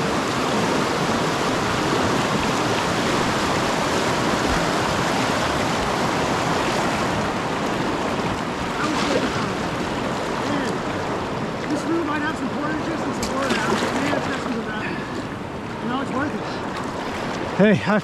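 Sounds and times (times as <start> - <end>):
whitewater rushing over rapids: 0.0 - 17.7.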